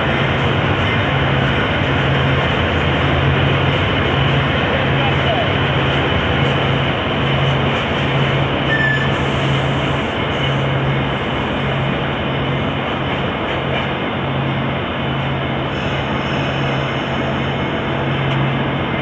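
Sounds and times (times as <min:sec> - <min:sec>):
steel wheels rushing on rails: 0:00.0 - 0:19.0.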